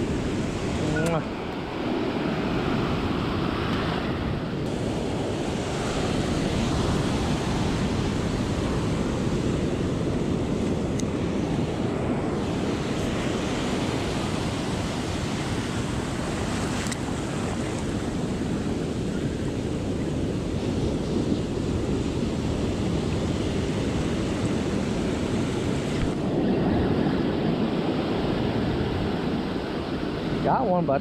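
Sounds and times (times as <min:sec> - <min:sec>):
ocean surf breaking: 0:00.0 - 0:31.0
wind on microphone: 0:00.0 - 0:31.0.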